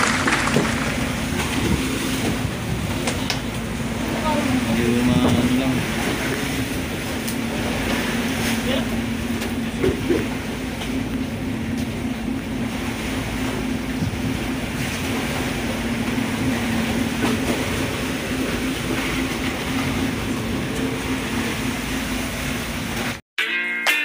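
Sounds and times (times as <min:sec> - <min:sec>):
boat engine running: 0:00.0 - 0:23.2.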